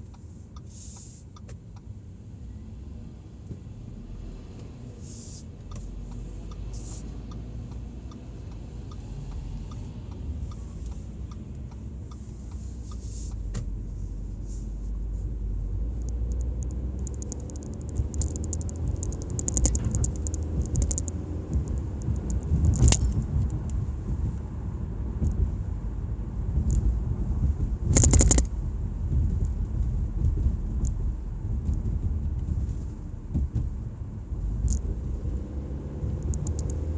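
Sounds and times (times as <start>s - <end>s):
car engine and road rumble: 0.0s - 36.9s.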